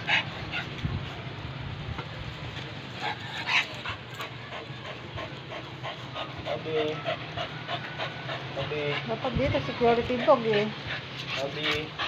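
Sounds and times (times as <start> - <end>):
dog panting: 0.0 - 0.8, 2.9 - 12.0.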